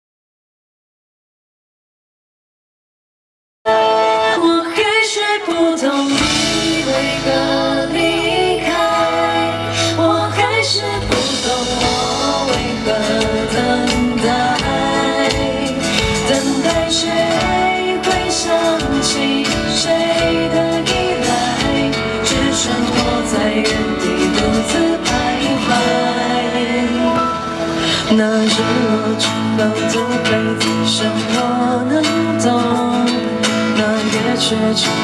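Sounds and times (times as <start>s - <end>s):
live band playing pop ballad: 3.7s - 35.0s
woman singing: 3.7s - 35.0s.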